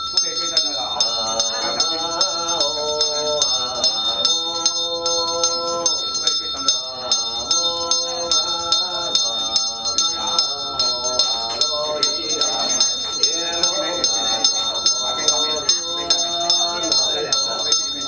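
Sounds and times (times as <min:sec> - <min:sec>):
person chanting: 0:00.0 - 0:18.0.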